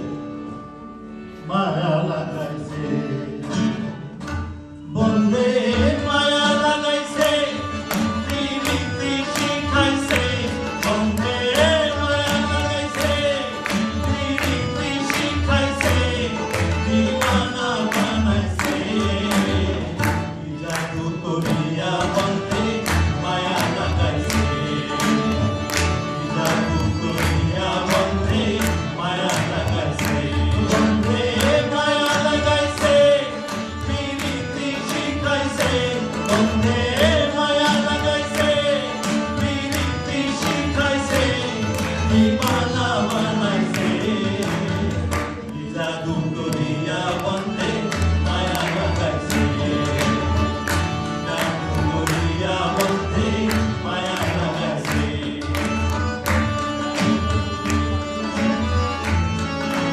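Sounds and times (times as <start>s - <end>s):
acoustic guitar: 0.0s - 59.9s
harmonium: 0.0s - 59.9s
man singing: 1.4s - 4.2s, 4.8s - 56.1s
tabla beat: 5.4s - 59.9s.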